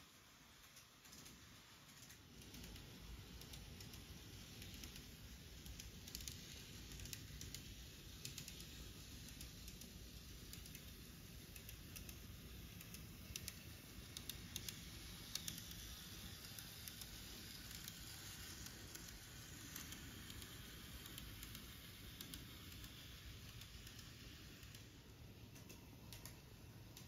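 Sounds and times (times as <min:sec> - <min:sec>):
model train wheels rolling: 0:00.0 - 0:27.0.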